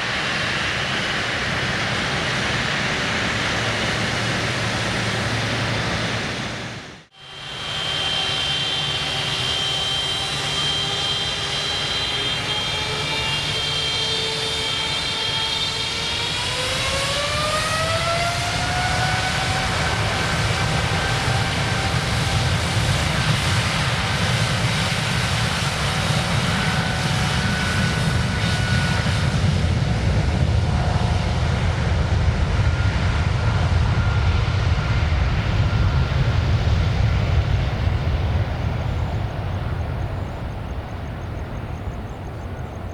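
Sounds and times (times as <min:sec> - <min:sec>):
jet engines roaring and whining: 0:00.0 - 0:42.9.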